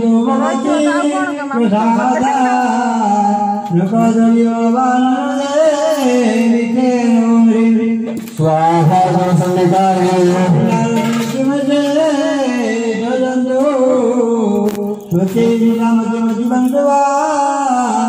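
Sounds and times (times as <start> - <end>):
man chanting into microphone: 0.0 - 18.0.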